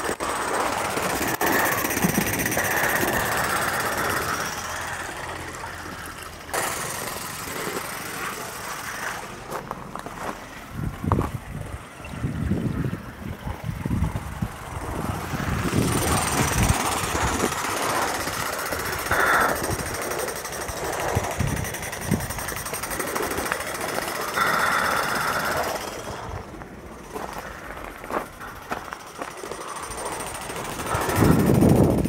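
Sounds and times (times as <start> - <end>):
model steam locomotive exhaust hissing: 0.0 - 32.0.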